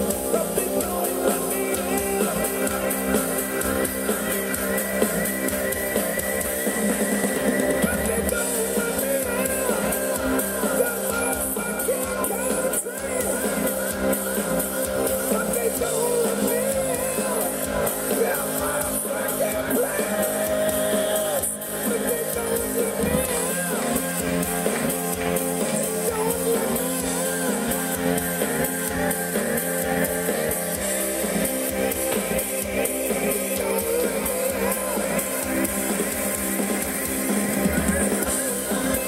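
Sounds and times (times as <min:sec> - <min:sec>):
song with singing: 0:00.0 - 0:39.0.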